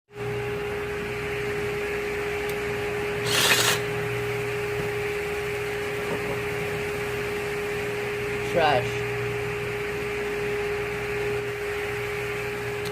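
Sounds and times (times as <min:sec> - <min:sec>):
machine hum: 0:00.1 - 0:12.9.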